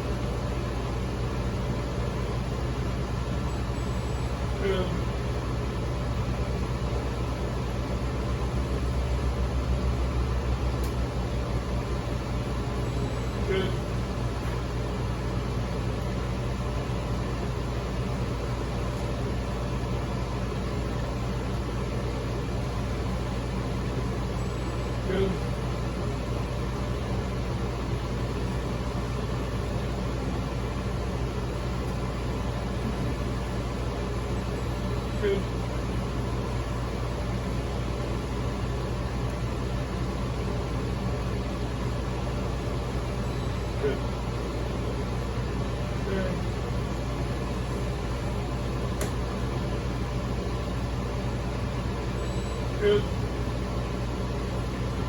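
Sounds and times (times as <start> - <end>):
equipment humming with fan rush: 0.0 - 55.0.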